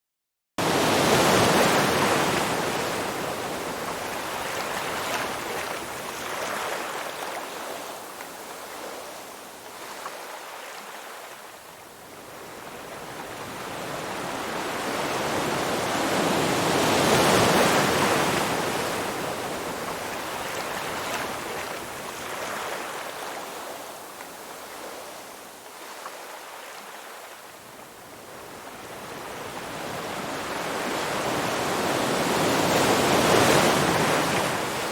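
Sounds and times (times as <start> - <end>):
ocean waves breaking: 0.6 - 11.4, 12.3 - 27.4, 28.5 - 34.9.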